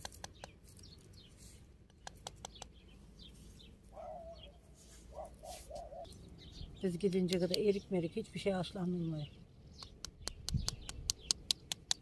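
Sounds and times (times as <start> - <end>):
faint birds chirping: 0.0 - 11.8.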